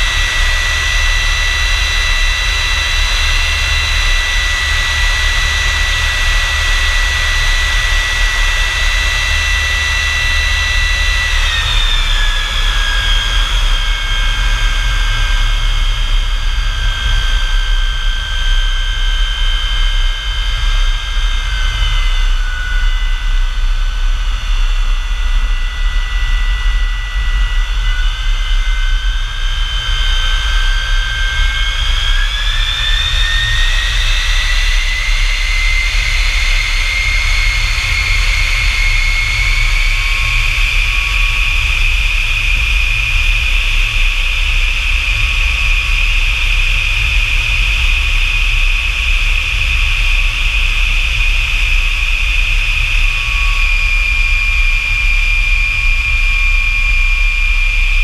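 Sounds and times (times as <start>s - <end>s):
jet engine whine and rumble: 0.0s - 58.0s.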